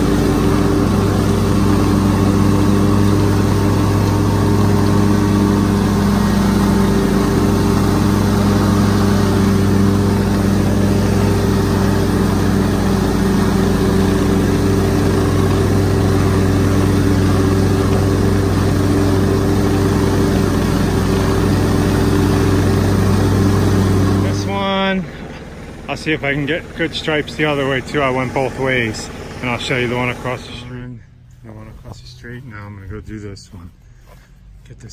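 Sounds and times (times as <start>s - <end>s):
lawn mower engine running: 0.0s - 34.6s.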